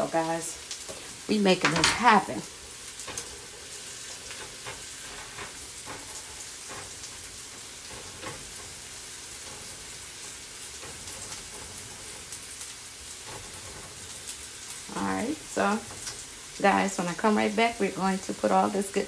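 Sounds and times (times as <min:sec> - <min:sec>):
vegetables sizzling in a frying pan: 0:00.0 - 0:19.0
spatula scraping and tapping a pan: 0:00.6 - 0:16.6.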